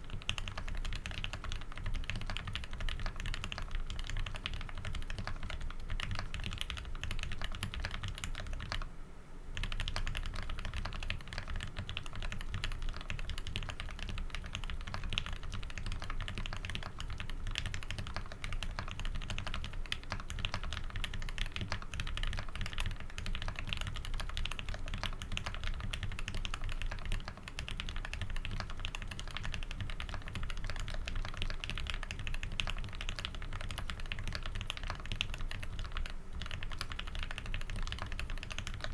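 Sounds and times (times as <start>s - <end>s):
mechanical keyboard typing: 0.0s - 8.9s, 9.6s - 38.9s.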